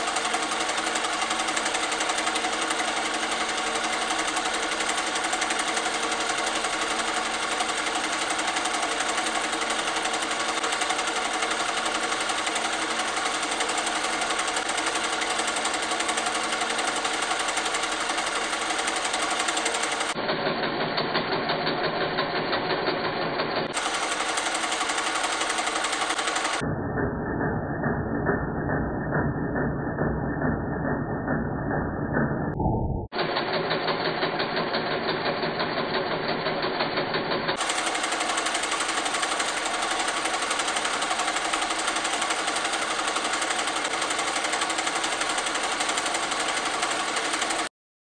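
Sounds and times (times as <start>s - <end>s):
film projector clattering: 0.0s - 26.6s, 33.2s - 47.7s.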